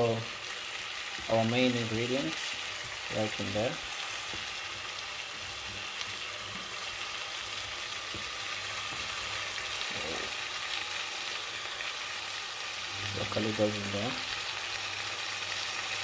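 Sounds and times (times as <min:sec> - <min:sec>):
vegetables sizzling in a pot: 0:00.0 - 0:16.0.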